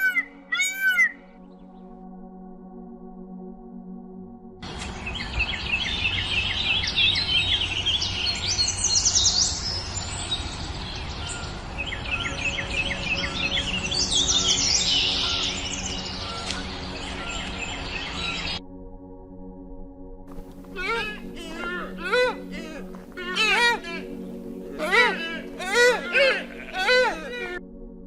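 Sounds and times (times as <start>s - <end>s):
birds chirping and trilling: 0.0s - 2.0s, 4.6s - 18.6s, 20.6s - 27.6s.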